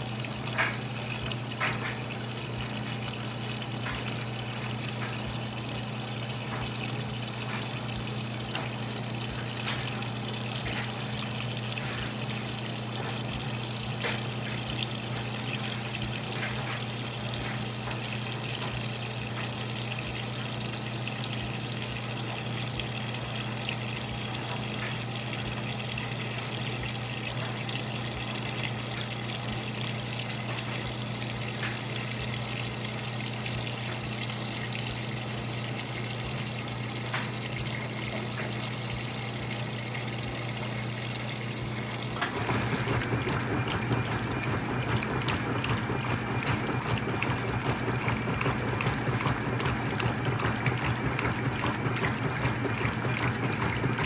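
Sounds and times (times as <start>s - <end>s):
water pouring into washer tub: 0.0s - 54.0s.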